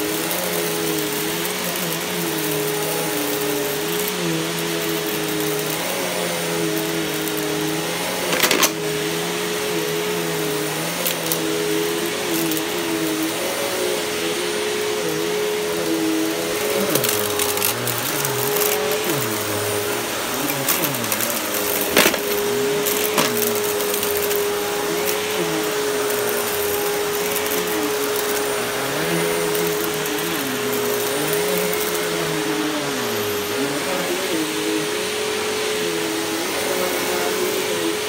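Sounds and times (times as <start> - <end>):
vacuum cleaner running over rug: 0.0 - 38.0.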